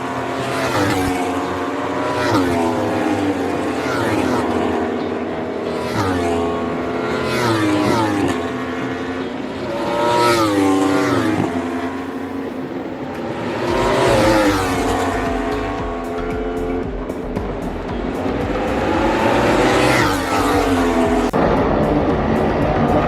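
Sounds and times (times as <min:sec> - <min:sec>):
racing motorcycles revving and passing: 0:00.0 - 0:23.0.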